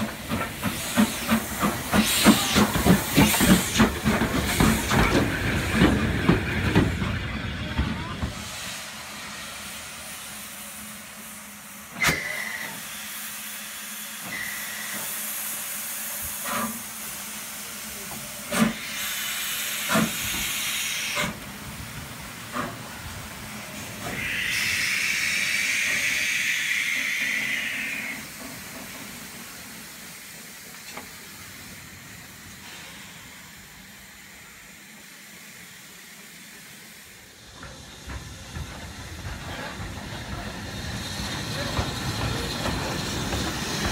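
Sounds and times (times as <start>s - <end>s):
loud rush of steam: 0.0s - 43.9s
steam locomotive hissing: 0.0s - 43.9s.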